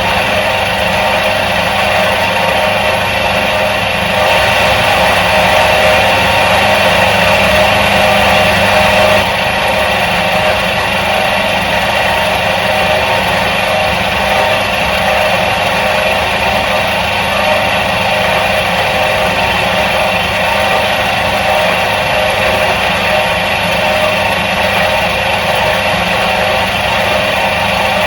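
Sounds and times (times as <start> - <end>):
washing machine motor humming: 0.0 - 28.0.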